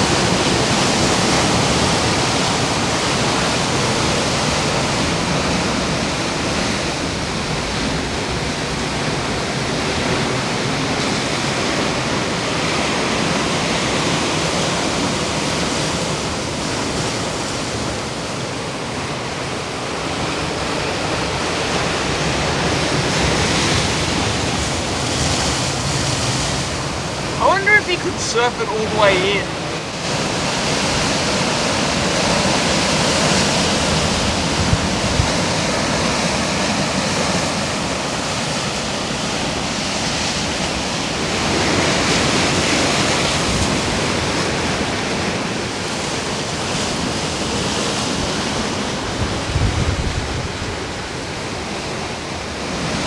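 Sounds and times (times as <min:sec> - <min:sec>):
ocean surf breaking on shore: 0:00.0 - 0:53.0.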